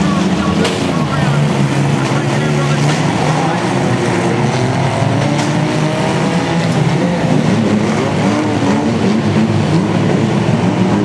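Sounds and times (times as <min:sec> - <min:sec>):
race car engines racing: 0:00.0 - 0:11.0.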